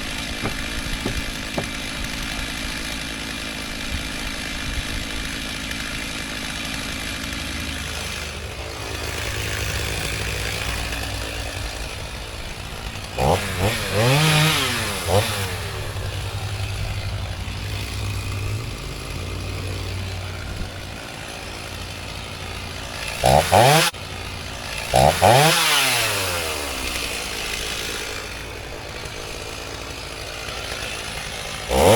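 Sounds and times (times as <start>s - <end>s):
chainsaw idling and revving: 0.0s - 31.9s.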